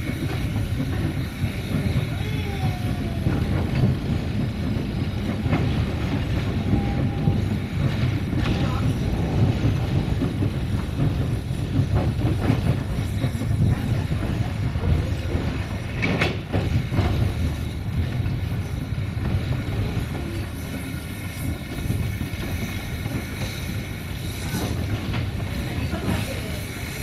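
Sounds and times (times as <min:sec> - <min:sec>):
clacks over rail joints: 0:00.0 - 0:27.0
train wheels rumbling on rails: 0:00.0 - 0:27.0.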